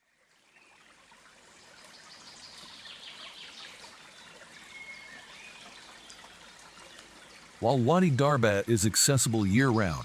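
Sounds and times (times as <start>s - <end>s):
running water: 0.7s - 10.0s.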